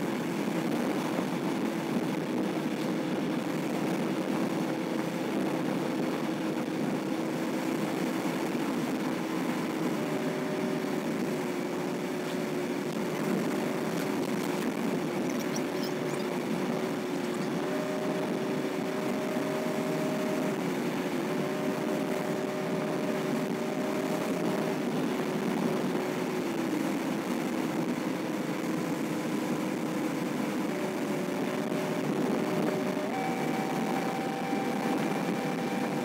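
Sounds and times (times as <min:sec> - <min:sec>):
road and tyre noise: 0:00.0 - 0:36.0
vehicle cabin hum: 0:00.0 - 0:36.0.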